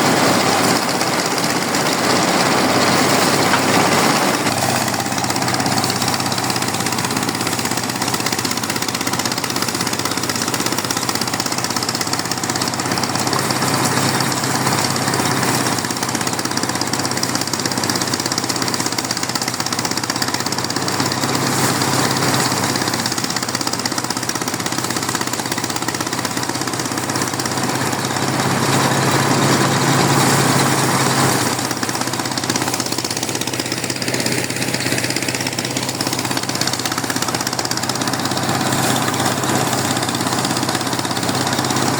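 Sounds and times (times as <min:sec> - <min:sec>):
farm machinery engine chugging: 0:00.0 - 0:41.9.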